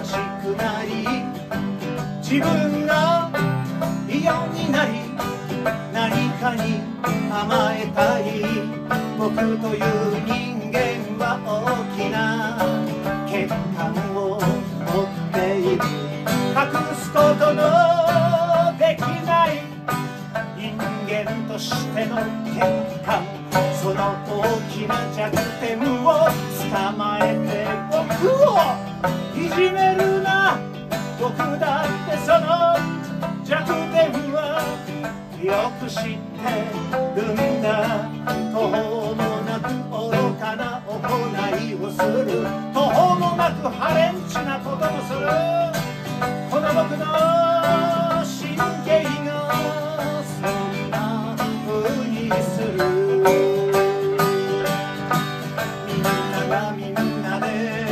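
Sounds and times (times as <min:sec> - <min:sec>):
acoustic guitars strummed: 0:00.0 - 0:57.9
man singing: 0:00.0 - 0:57.9
plucked string instrument: 0:00.0 - 0:57.9.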